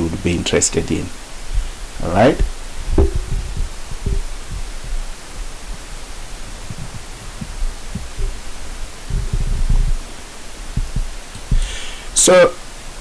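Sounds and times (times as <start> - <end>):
microphone hiss and hum: 0.0 - 13.0
soft low thumps: 1.3 - 12.2.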